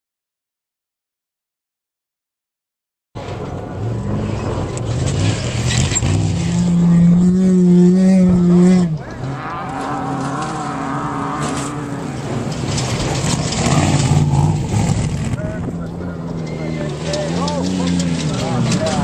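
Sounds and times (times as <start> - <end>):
engine with wavering note: 3.2 - 19.0
high-revving race engine: 3.4 - 19.0.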